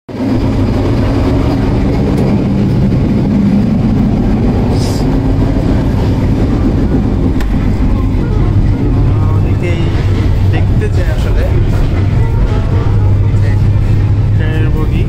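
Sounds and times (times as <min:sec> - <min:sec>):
train rumbling: 0:00.1 - 0:15.0.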